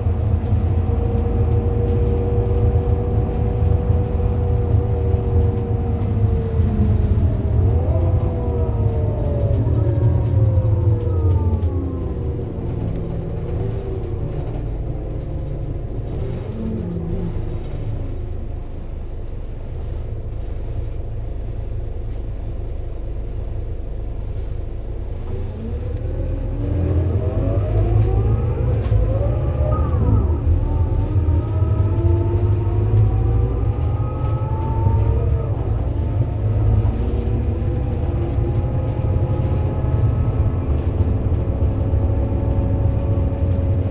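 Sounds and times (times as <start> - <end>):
bus engine: 0.0 - 43.9.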